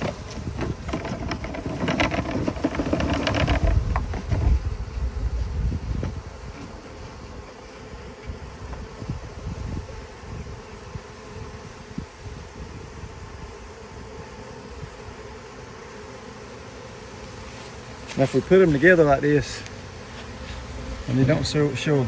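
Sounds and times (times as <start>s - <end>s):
bee swarm buzzing: 0.0s - 22.0s.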